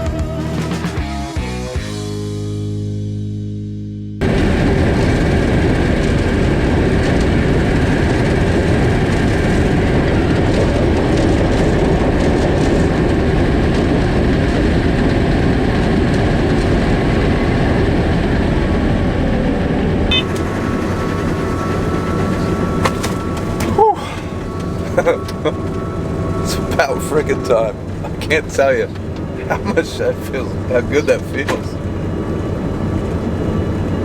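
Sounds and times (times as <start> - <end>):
combine harvester running: 4.2 - 34.0.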